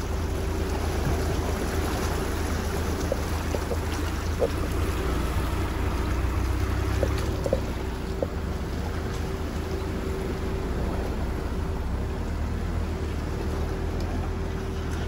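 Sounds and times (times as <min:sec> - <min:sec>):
low engine rumble: 0:00.0 - 0:15.0
tyres rolling through rocky creek: 0:00.0 - 0:15.0
water splashing around wheels: 0:00.0 - 0:15.0.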